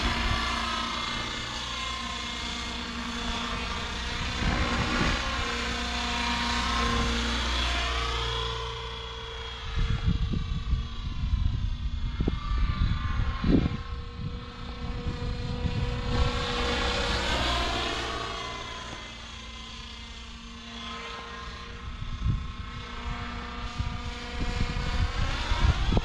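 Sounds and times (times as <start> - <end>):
rc helicopter rotor whine: 0.0 - 26.0.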